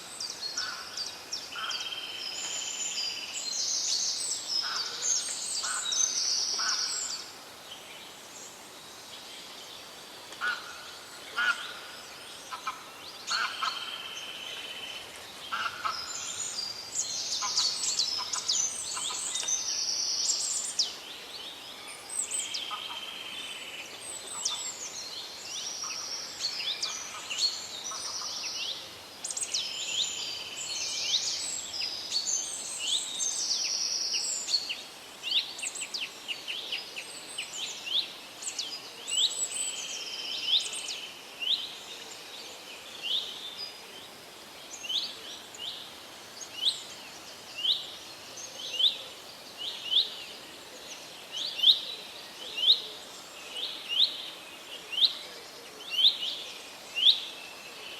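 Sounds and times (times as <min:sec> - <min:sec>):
faint steady hiss: 0:00.0 - 0:57.9
songbirds calling and singing: 0:00.0 - 0:57.9.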